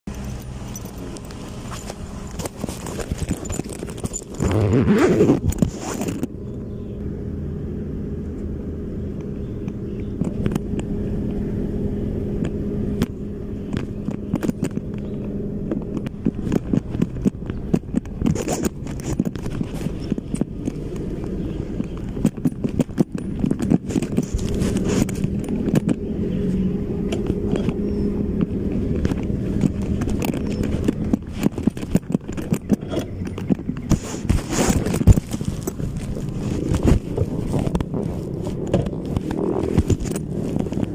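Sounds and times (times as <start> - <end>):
motorcycle engine running steadily: 0.1 - 40.9.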